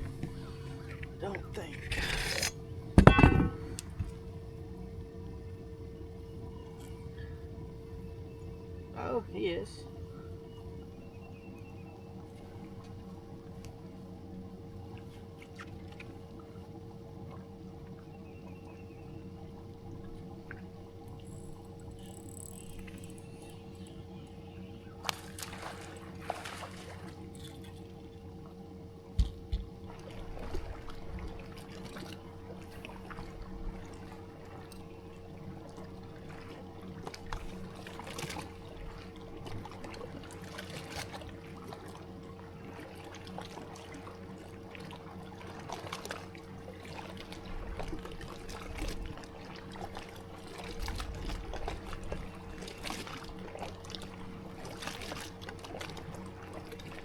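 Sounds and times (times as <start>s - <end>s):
steady hum: 0.0s - 57.0s
water lapping against boat hull: 0.0s - 57.0s.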